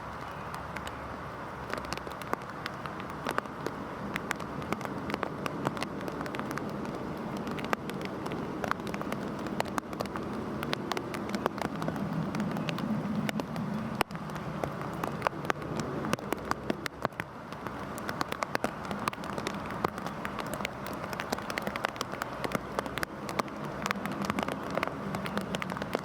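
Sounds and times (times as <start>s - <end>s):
heavy rain on hard surface: 0.0s - 26.0s.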